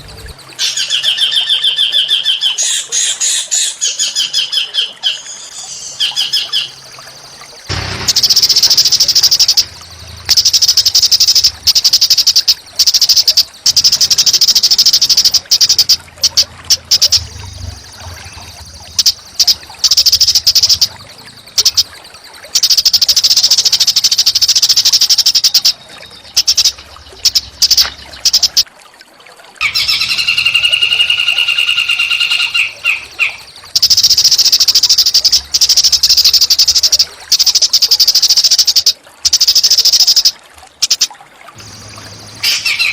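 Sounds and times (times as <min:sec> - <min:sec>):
lower steady bird call: 0:00.0 - 0:28.6, 0:29.6 - 0:42.9
songbird buzzy trills: 0:00.0 - 0:28.7, 0:29.6 - 0:42.9.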